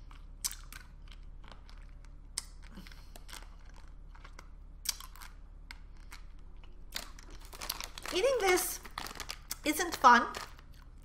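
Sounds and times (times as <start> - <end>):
chewing hard candy: 0.0 - 11.0.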